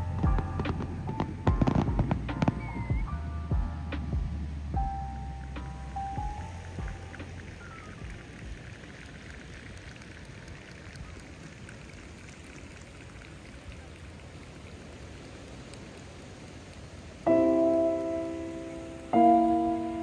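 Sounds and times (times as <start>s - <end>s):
distant fireworks crackling: 0.0s - 20.0s
steady surf-like noise: 0.0s - 20.0s.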